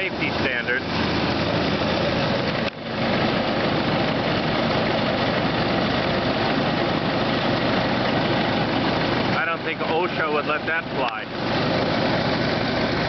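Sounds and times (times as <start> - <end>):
concrete mixer truck engine running: 0.0 - 13.0.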